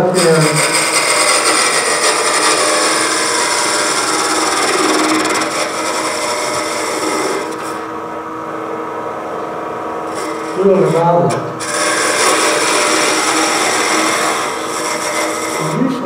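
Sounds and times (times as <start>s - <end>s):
tool scraping spinning wood: 0.0s - 7.9s, 10.0s - 16.0s
lathe hum: 0.0s - 16.0s.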